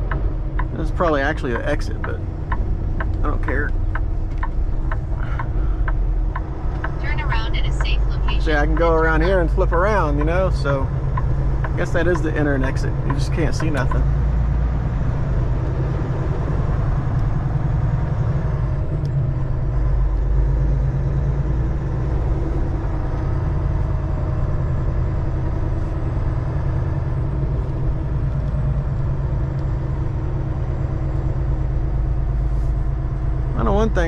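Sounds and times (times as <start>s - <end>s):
truck diesel engine droning: 0.0s - 34.0s.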